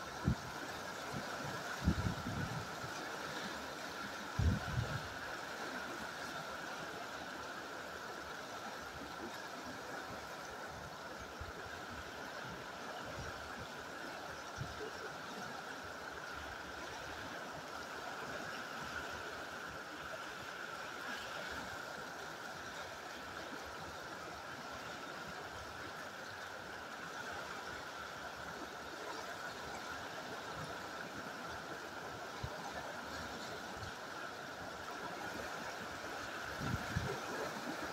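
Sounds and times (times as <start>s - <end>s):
river rushing over rocks: 0.0s - 37.9s.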